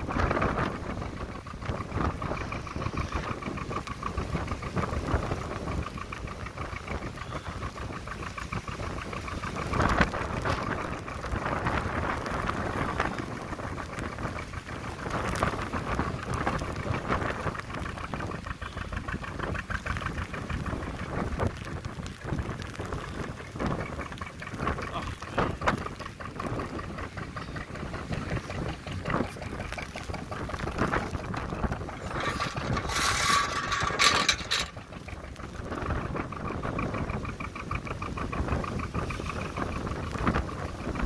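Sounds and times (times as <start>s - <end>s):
boat engine running: 0.0s - 41.0s
rain falling: 0.0s - 41.0s
wind buffeting microphone: 0.0s - 41.0s.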